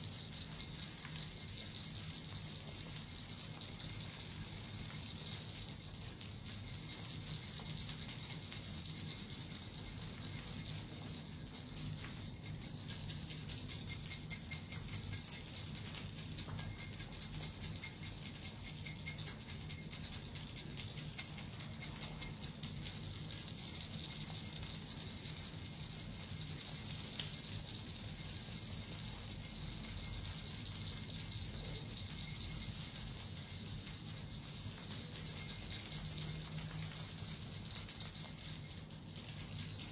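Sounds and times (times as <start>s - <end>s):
small bells jingling: 0.0s - 39.9s.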